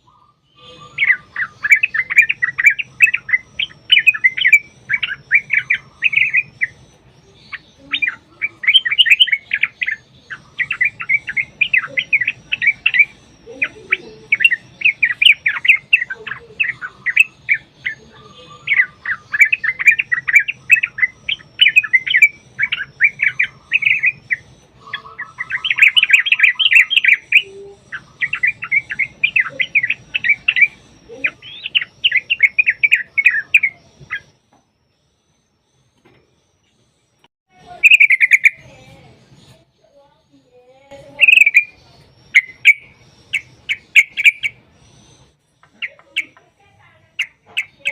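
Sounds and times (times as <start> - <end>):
bulbul singing chattering phrases: 0.0 - 47.9.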